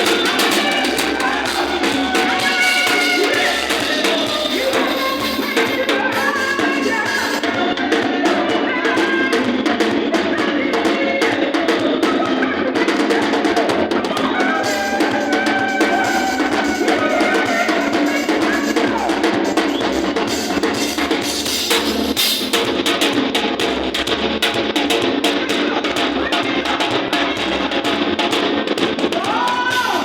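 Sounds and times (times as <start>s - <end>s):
live band keyboard and drums: 0.0s - 30.0s.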